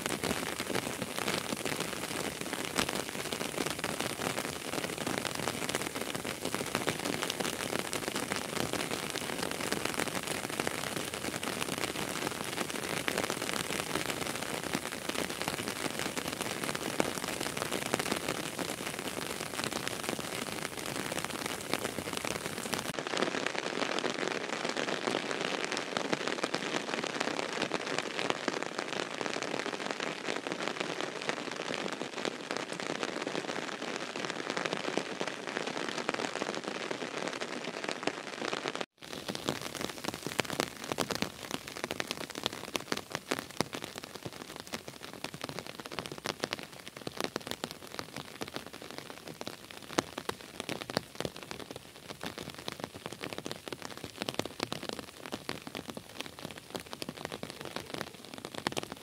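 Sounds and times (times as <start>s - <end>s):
rain pattering on sand and puddles: 0.0s - 59.0s.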